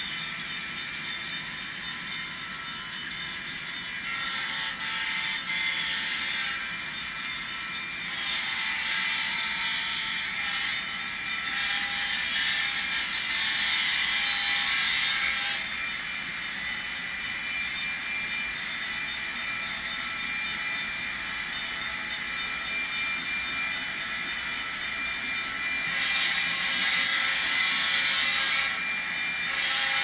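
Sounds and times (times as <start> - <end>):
model train whirring with high whine: 0.0 - 30.0.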